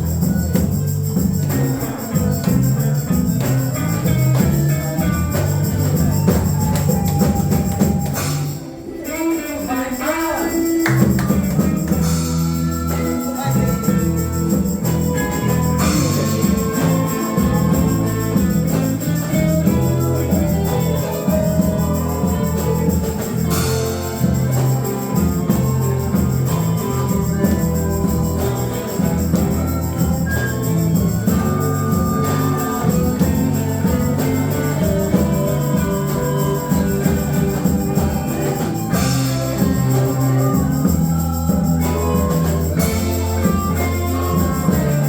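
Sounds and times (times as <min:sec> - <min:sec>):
bass line: 0:00.0 - 0:08.7, 0:10.8 - 0:45.0
guitar: 0:00.0 - 0:45.0
tambourine shaken in rhythm: 0:00.0 - 0:45.0.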